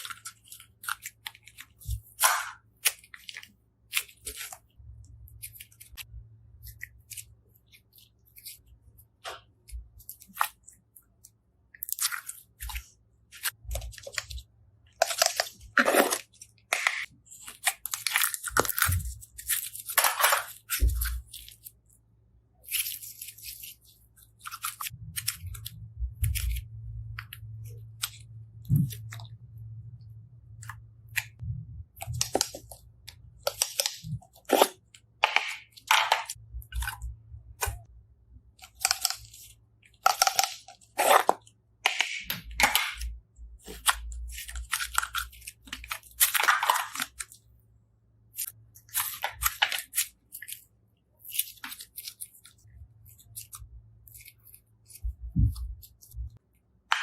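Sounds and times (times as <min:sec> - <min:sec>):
slime crunching and crackling: 0:00.0 - 0:22.0, 0:22.6 - 0:29.4, 0:30.5 - 0:37.9, 0:38.5 - 0:47.5, 0:48.2 - 0:57.0.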